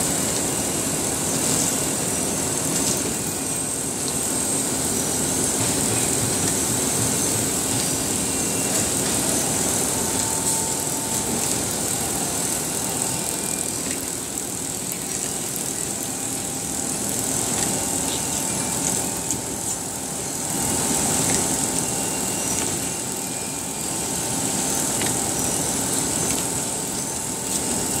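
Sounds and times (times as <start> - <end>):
conveyor machinery din: 0.0 - 28.0
thin steady hum: 0.0 - 28.0.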